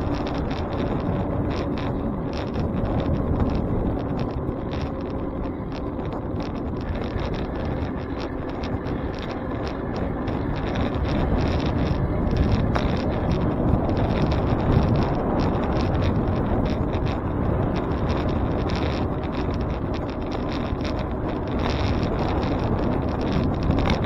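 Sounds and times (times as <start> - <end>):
bicycle road noise: 0.0 - 24.0
irregular rattle of clicks: 0.0 - 24.0
wind buffeting microphone: 0.0 - 24.0.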